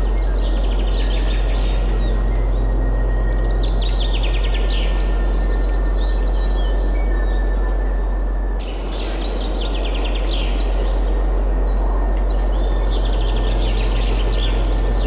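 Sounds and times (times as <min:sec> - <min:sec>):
songbirds chirping and trilling: 0:00.0 - 0:15.0
wind with low rumble: 0:00.0 - 0:15.0.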